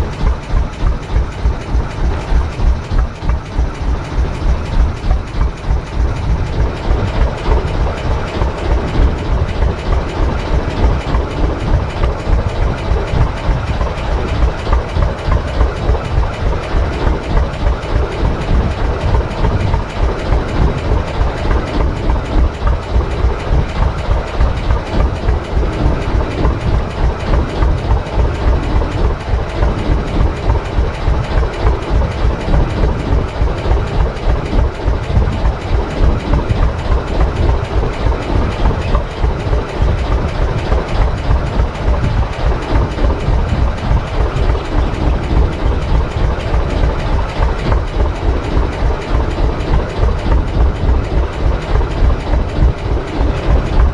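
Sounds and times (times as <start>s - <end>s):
boat engine thumping: 0.0s - 53.9s.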